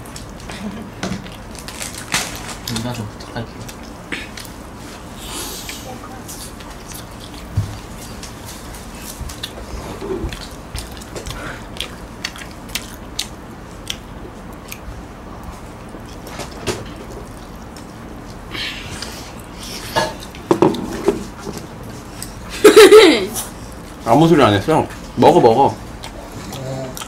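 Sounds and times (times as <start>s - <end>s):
wet chewing: 0.0s - 22.5s, 24.9s - 27.0s.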